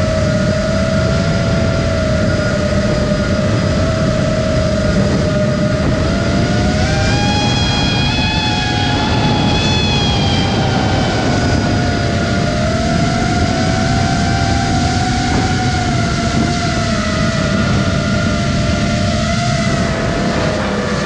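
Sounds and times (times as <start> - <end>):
quadcopter motors whining: 0.0 - 21.0
wind rushing: 0.0 - 21.0.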